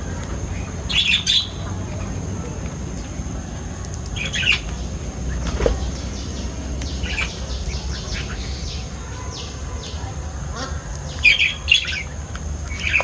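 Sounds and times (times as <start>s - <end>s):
birds squawking and chirping: 0.0s - 13.0s
steady low rumble: 0.0s - 13.0s.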